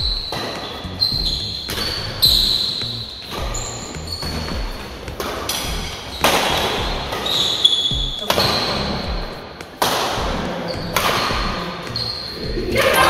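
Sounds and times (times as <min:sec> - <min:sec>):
racket hitting shuttlecock: 0:00.0 - 0:00.8, 0:01.5 - 0:12.4
shoes squeaking on court: 0:00.0 - 0:12.5.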